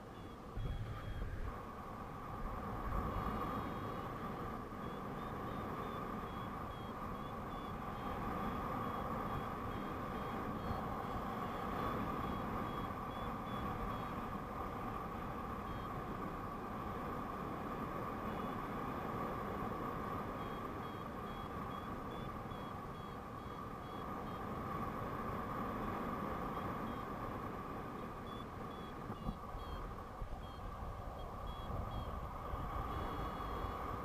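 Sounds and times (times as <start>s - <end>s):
variometer beeping: 0.0s - 1.5s, 3.6s - 14.5s, 15.1s - 17.3s, 20.0s - 34.0s
wind rushing across microphone: 0.0s - 34.0s.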